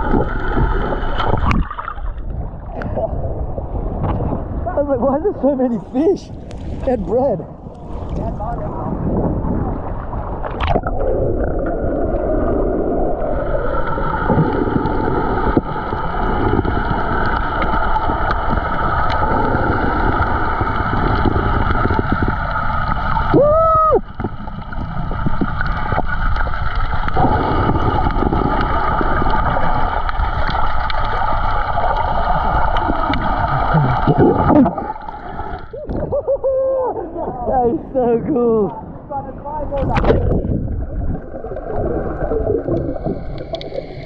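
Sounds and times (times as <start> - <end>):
muffled underwater rushing water: 0.0 - 44.0.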